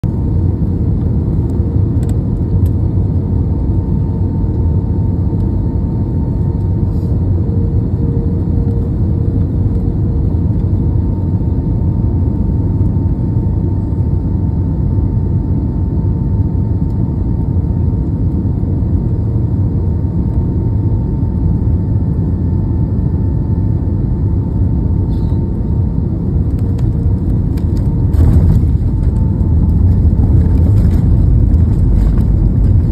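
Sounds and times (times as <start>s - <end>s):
jet engines and rushing air rumble: 0.0s - 32.9s.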